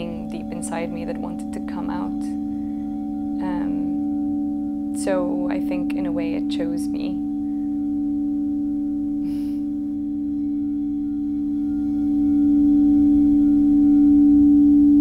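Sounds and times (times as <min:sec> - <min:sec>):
singing bowl ringing tone: 0:00.0 - 0:15.0.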